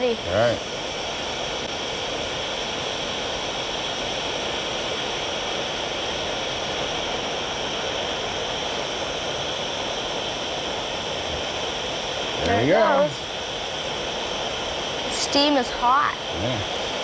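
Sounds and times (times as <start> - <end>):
blowtorch flame hissing: 0.0 - 17.0.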